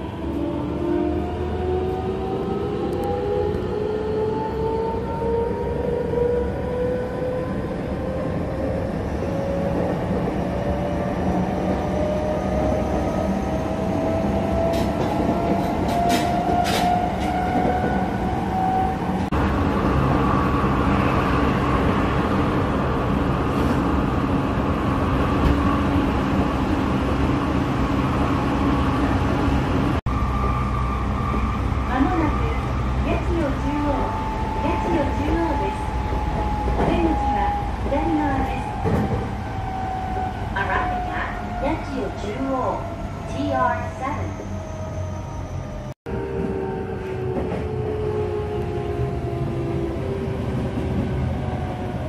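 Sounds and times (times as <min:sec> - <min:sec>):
wheels rumbling on rail: 0:00.0 - 0:52.0.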